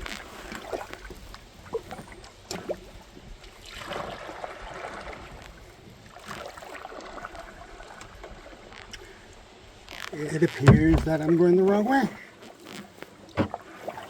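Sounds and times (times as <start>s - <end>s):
water splashing around kayak: 0.0s - 14.0s.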